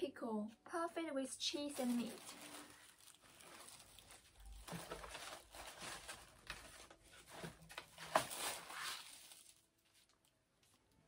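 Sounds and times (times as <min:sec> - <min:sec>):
packaging rustling: 0:01.6 - 0:10.8.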